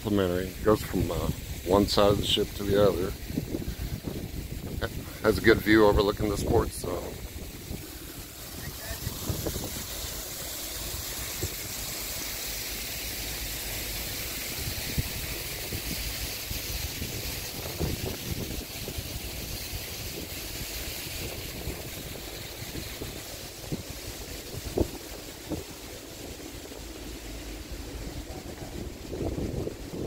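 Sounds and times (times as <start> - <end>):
wind buffeting microphone: 0.5 - 11.8, 14.5 - 25.9, 27.6 - 30.0.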